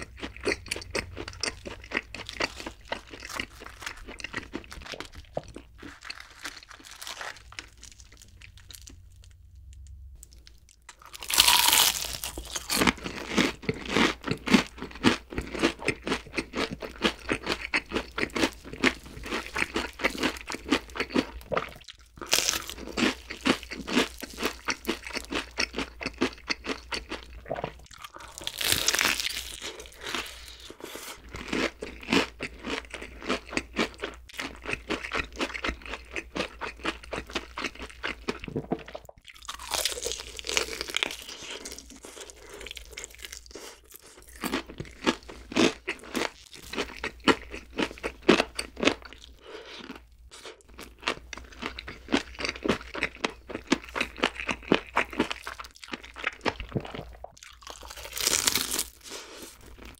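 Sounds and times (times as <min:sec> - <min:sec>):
crunching fried chicken: 0:00.0 - 0:59.9.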